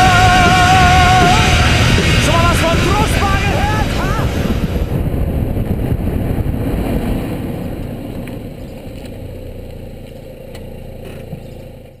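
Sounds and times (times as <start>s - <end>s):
car rolling with low rumble: 0.0s - 12.0s.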